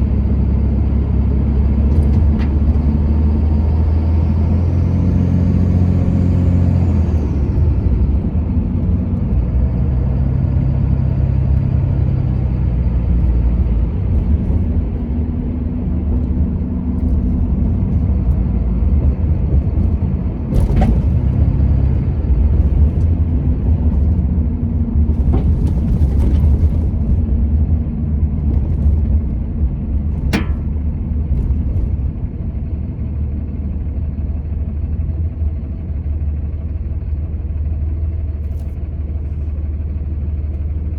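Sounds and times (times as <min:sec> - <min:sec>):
vehicle engine and road rumble: 0:00.0 - 0:40.9.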